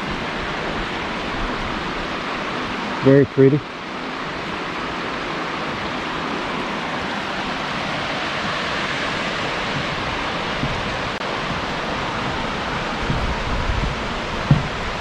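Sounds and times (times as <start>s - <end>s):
mountain creek running: 0.0s - 15.0s.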